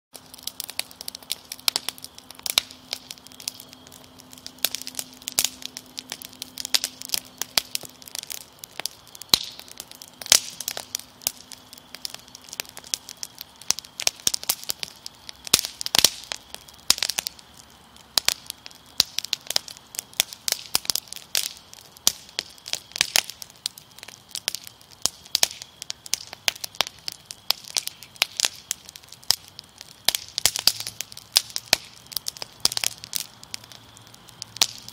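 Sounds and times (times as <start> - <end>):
fire crackling and popping: 0.1 - 34.9.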